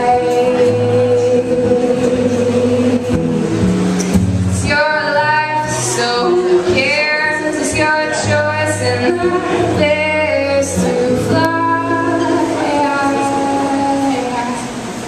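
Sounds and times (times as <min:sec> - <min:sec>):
woman singing: 0:00.0 - 0:03.7, 0:04.6 - 0:14.8.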